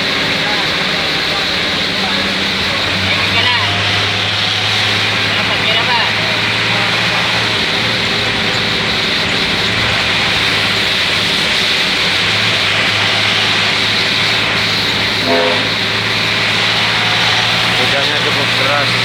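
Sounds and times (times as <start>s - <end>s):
bus engine drone: 0.0s - 19.0s
heavy rain and wet tyres: 0.0s - 19.0s
horn blast: 0.0s - 19.0s.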